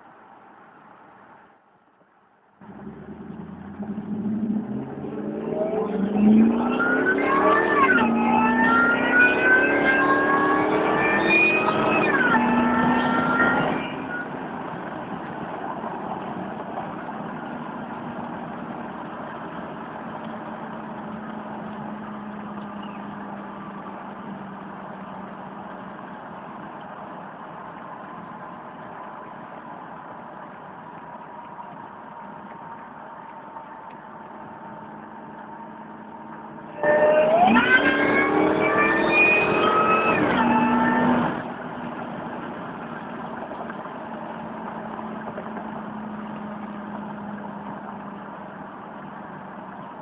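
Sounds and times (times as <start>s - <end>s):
car engine accelerating hard: 2.6s - 50.0s.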